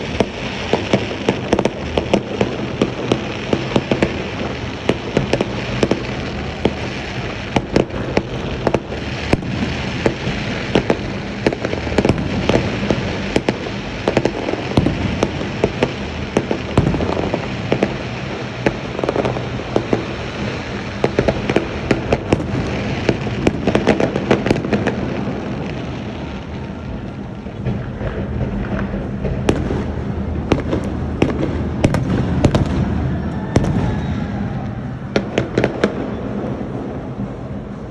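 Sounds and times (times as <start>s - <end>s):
firecrackers crackling: 0.0s - 37.9s
fireworks bangs: 0.0s - 37.9s.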